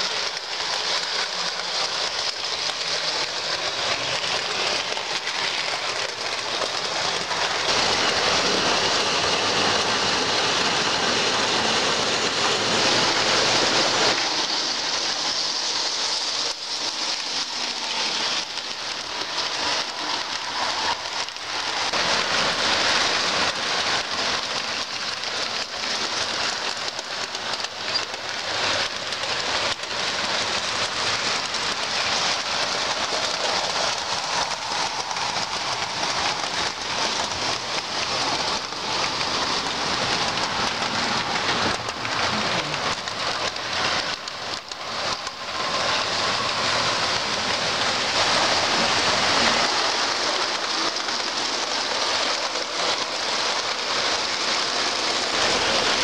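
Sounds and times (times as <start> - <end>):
model train wheels hissing on rails: 0.0 - 56.0.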